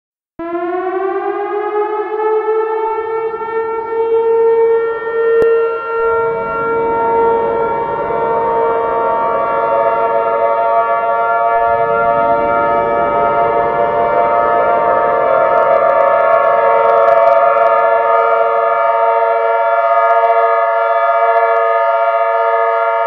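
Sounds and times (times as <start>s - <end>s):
warning sirens winding up: 0.4s - 23.0s.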